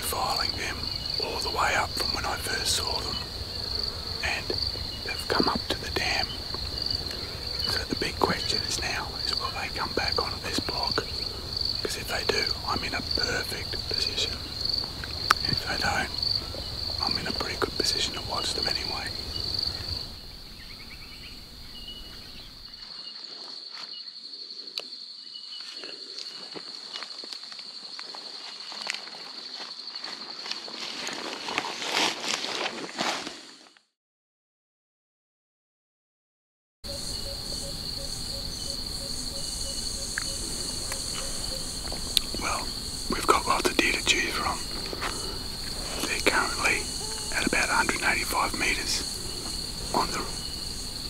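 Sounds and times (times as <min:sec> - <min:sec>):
high-pitched insect trill: 0:00.0 - 0:31.2, 0:36.9 - 0:51.0.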